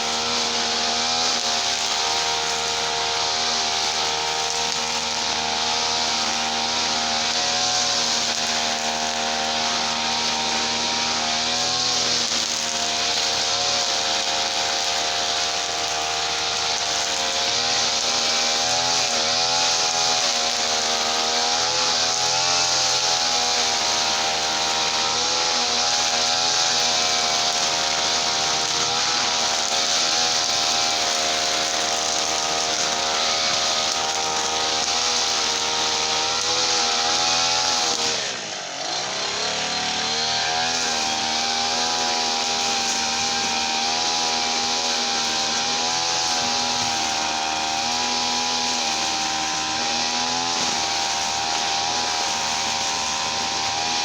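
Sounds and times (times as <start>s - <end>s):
brush cutter engine at high revs: 0.0s - 54.0s.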